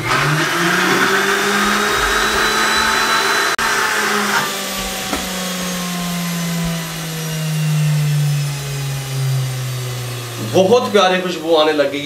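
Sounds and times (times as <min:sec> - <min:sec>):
blender motor grinding: 0:00.0 - 0:12.0.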